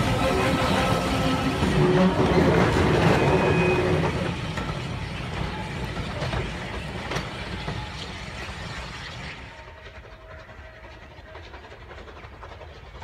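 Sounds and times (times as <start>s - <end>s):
train wagons clacking over rails: 0.0s - 13.0s.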